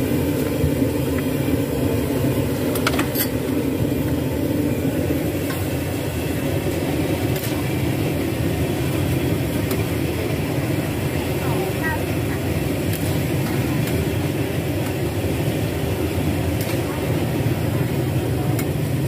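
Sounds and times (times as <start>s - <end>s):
gas burner rushing: 0.0s - 19.0s.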